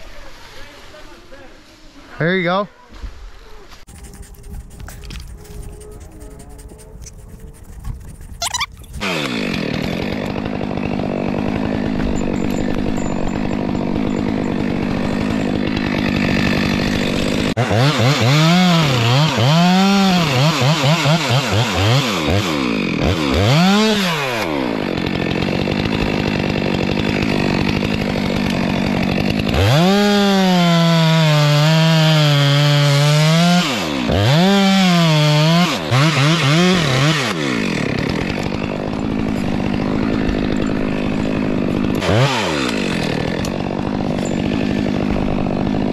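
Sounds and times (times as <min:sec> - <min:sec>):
chainsaw cutting tree trunk: 0:03.9 - 0:45.9.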